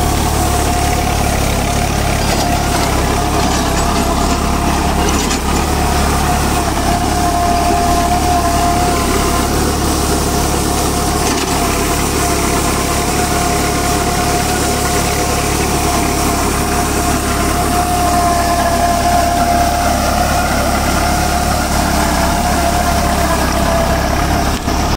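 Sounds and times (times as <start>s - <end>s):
rotary tiller in dry soil: 0.0s - 24.9s
tractor engine running: 0.0s - 24.9s.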